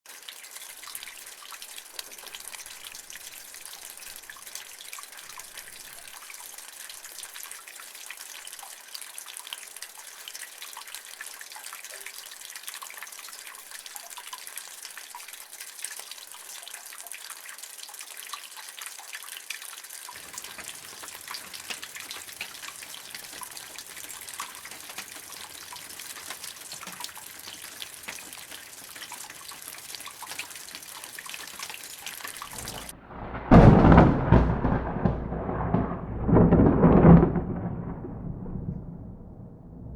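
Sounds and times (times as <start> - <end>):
steady rainfall: 0.1 - 38.2.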